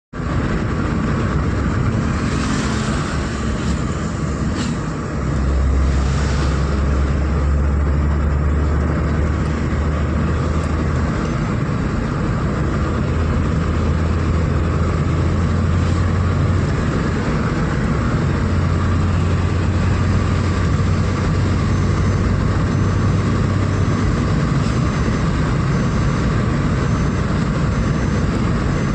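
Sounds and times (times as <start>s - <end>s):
car engine drone: 0.1s - 28.9s
road and wind noise: 0.1s - 28.9s.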